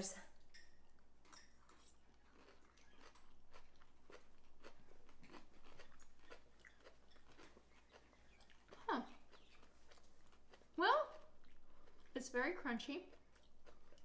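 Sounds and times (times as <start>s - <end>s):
crunchy chewing: 0.4s - 12.3s, 13.0s - 14.0s.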